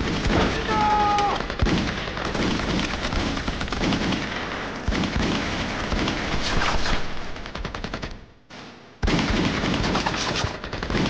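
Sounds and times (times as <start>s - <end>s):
rifle and machine-gun shots: 0.0s - 11.0s.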